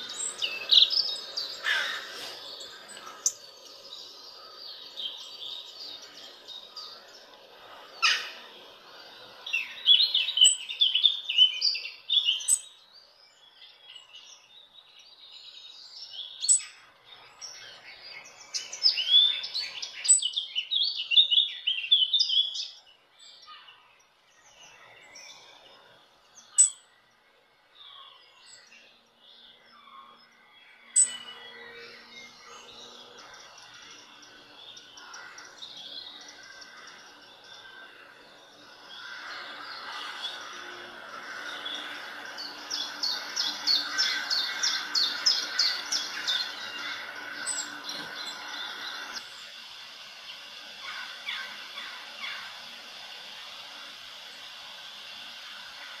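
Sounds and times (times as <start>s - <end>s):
small bird chirping and twittering: 0.0s - 27.2s, 27.8s - 56.0s.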